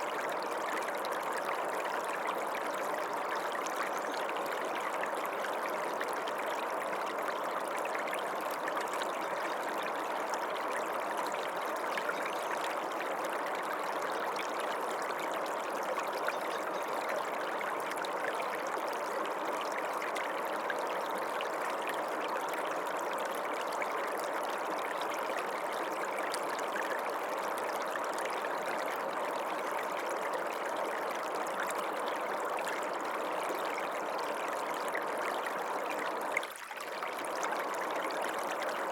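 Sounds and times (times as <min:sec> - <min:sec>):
creek water running over rocks: 0:00.0 - 0:38.9.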